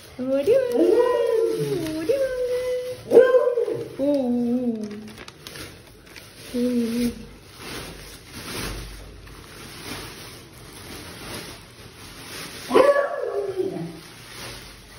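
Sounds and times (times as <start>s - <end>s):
fabric cover rustling: 0.0s - 14.9s.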